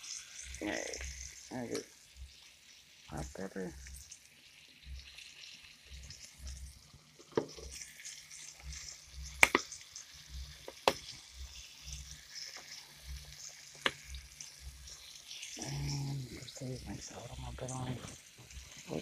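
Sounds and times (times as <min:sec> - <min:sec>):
meat sizzling in oil: 0:00.0 - 0:19.0.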